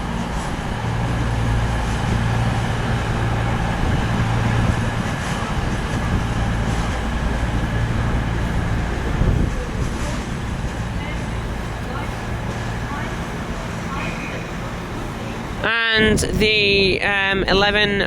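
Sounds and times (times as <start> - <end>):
train engine idling: 0.0 - 18.0.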